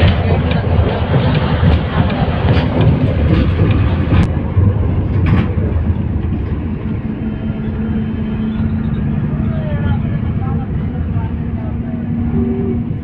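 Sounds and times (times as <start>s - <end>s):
bus engine and tyres rumbling: 0.0s - 13.0s
truck passing: 0.0s - 13.0s.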